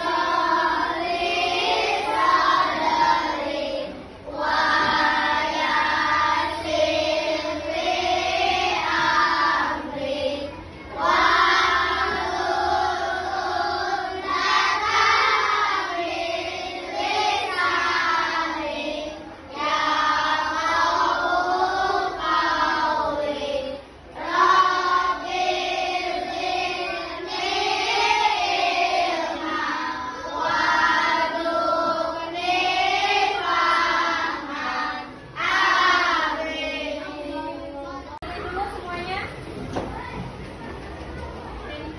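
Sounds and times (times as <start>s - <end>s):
children singing together: 0.0s - 38.2s.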